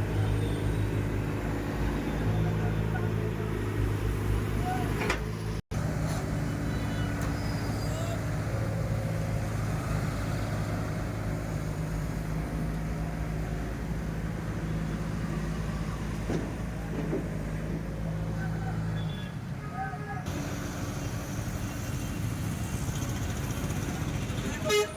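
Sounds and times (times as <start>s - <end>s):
diesel engine running steadily: 0.0s - 24.9s.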